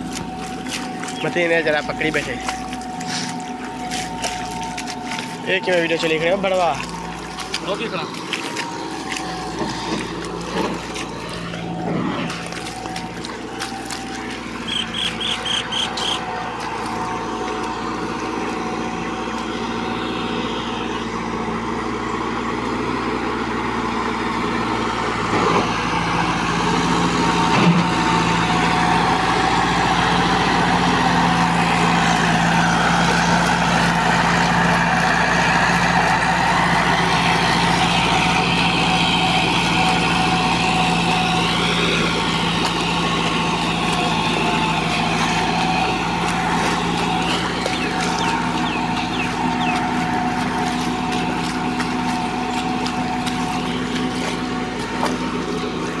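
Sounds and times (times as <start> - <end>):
combine harvester engine drone: 0.0 - 56.0.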